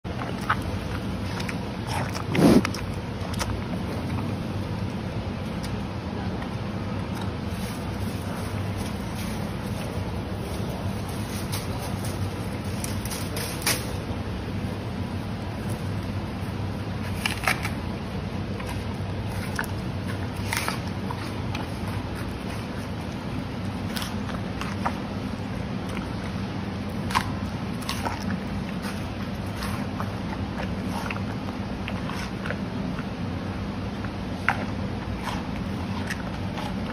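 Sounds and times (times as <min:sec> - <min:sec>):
steady low hum: 0:00.0 - 0:36.9
panda chewing with crunches: 0:00.1 - 0:36.9.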